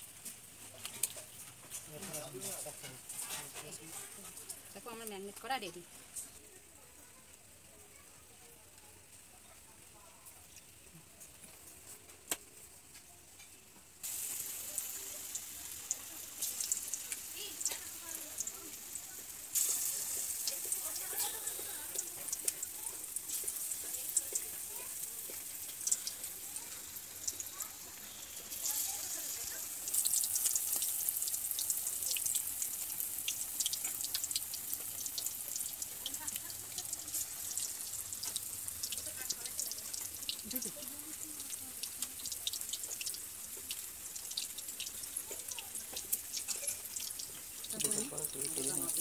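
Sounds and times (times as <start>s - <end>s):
oil crackling and popping: 0.0s - 8.0s, 8.7s - 49.0s
deep-frying in hot oil: 0.0s - 49.0s.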